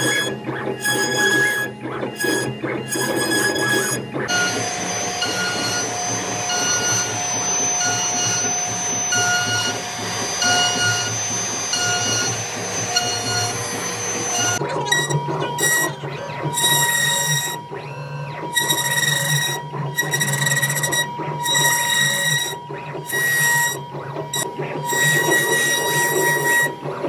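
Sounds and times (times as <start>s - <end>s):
router spindle whining: 0.0s - 27.0s.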